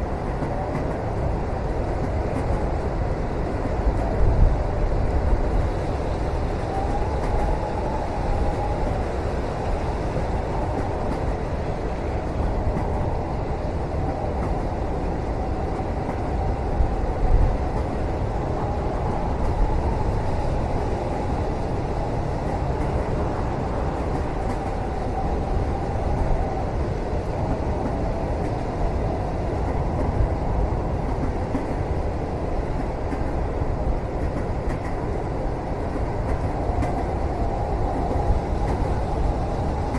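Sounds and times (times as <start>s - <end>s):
train rumble inside cabin: 0.0s - 39.9s.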